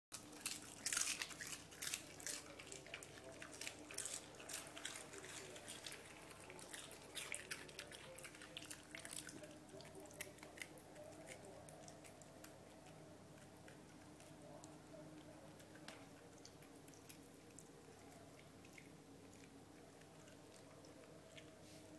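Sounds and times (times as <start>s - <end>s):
dogs crunching lettuce: 0.1s - 21.9s.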